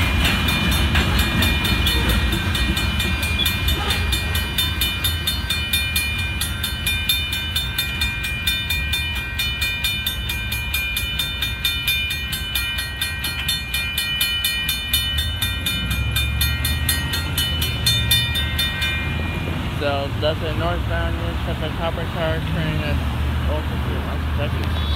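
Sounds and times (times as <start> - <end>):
freight train rumbling: 0.0 - 24.9
railroad crossing bell ringing: 0.0 - 24.9.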